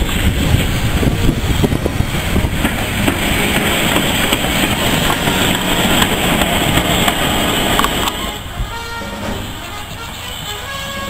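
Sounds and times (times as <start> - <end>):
steam locomotive rumbling past: 0.0 - 11.0.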